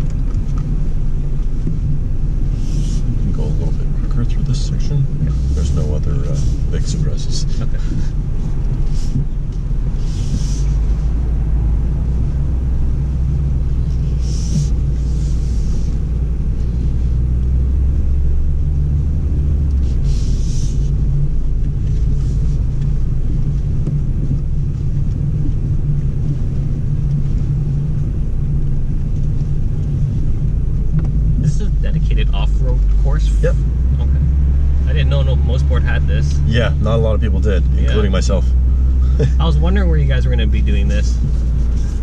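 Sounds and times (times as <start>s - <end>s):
car cabin rumble on dirt track: 0.0s - 42.0s.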